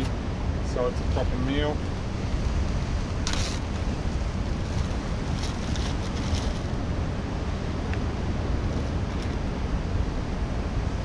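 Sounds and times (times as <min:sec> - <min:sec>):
ocean surf: 0:00.0 - 0:11.0
wind buffeting microphone: 0:00.0 - 0:11.0.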